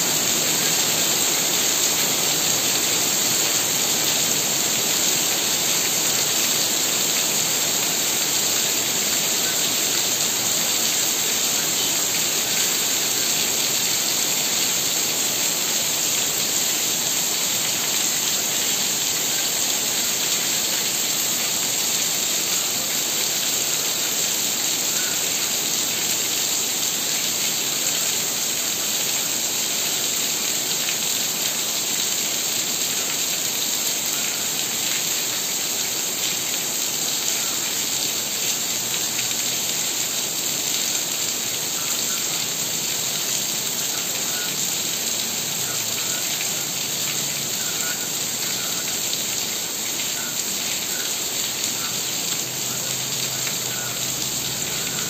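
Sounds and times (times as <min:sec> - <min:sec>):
heavy rain on trees and roofs: 0:00.0 - 0:55.0.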